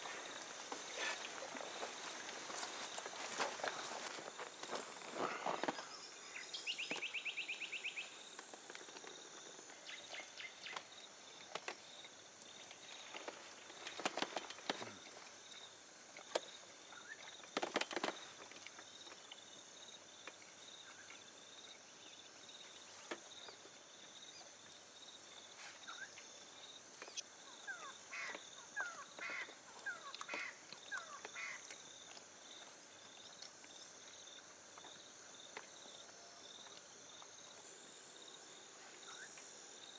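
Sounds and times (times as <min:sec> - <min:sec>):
high insect chorus: 0:00.0 - 0:39.9
insect trill: 0:00.0 - 0:39.9.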